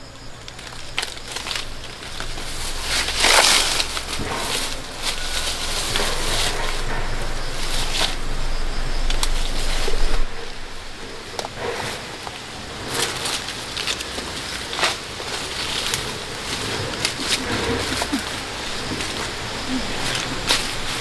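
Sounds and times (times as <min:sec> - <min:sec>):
birds calling: 0:00.0 - 0:21.0
dry leaves and sticks crackling: 0:00.0 - 0:21.0.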